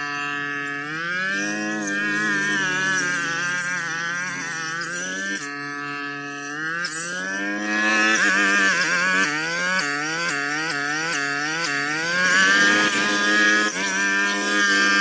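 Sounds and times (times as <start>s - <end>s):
brush cutter engine at high revs: 0.0s - 15.0s.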